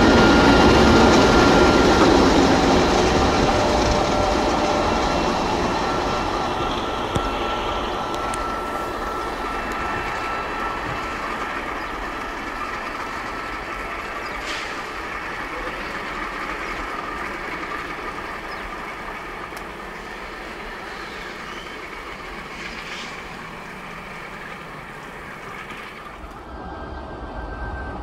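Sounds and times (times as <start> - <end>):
diesel locomotive engine: 0.0 - 28.0
rail noise: 0.0 - 28.0.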